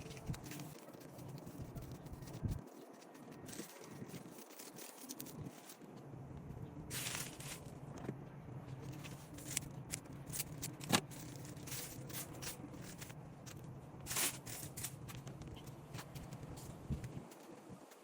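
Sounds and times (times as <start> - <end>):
dry craft materials rustling: 0.0 - 6.0, 6.9 - 8.1, 8.7 - 18.0.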